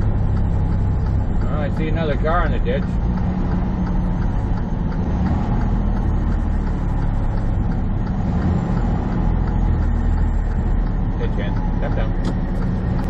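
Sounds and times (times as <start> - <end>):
diesel truck engine drone: 0.0 - 13.0
road noise: 0.0 - 13.0.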